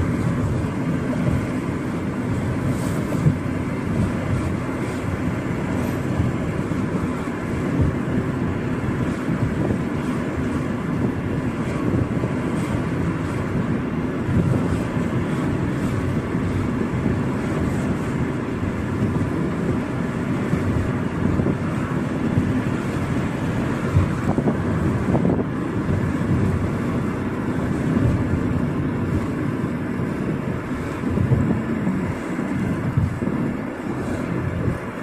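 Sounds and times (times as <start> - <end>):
car interior road and engine noise: 0.0 - 35.0.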